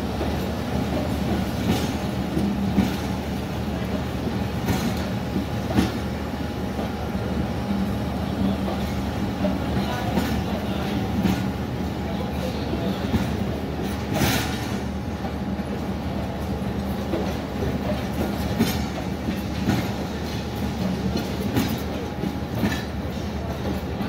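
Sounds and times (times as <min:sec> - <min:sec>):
train coaches rumbling: 0:00.0 - 0:24.0.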